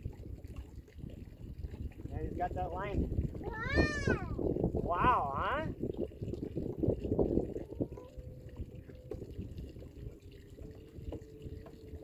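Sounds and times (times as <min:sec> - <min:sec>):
water splashing against boat: 0:00.0 - 0:12.0.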